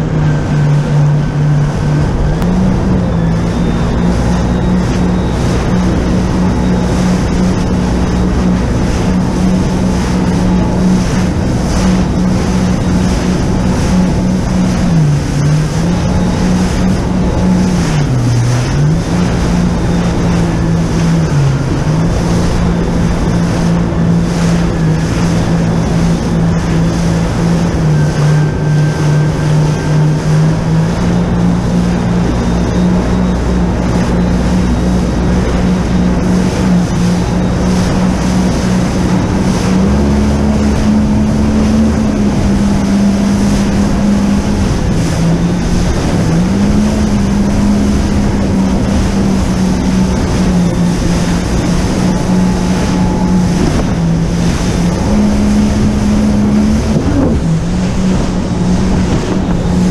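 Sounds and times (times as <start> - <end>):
jet ski engine running: 0.0 - 59.9
rush of wind and water: 0.0 - 59.9.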